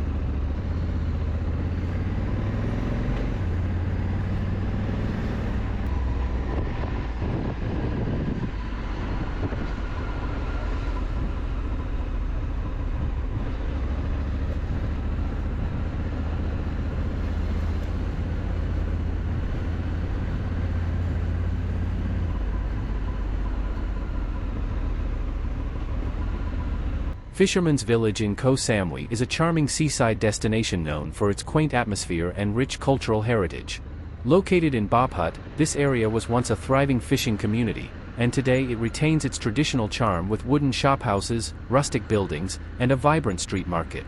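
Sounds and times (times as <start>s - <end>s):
motorcycle engine rumble: 0.0s - 44.0s
road and wind noise: 0.0s - 44.0s.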